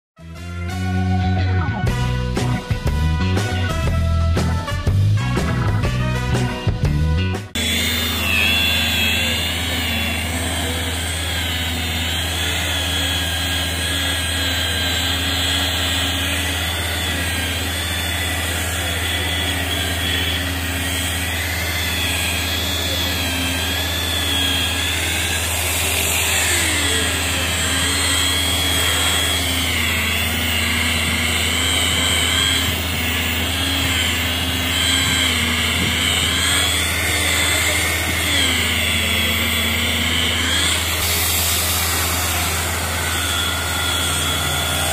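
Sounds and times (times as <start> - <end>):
electric polisher motor whine: 0.2 - 44.9.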